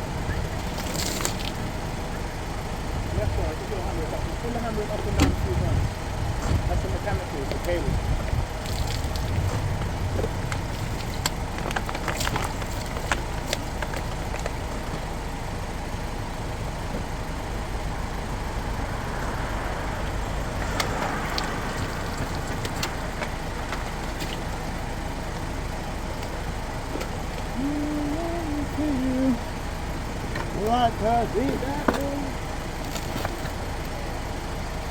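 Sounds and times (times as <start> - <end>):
steady low rumble: 0.0 - 34.9.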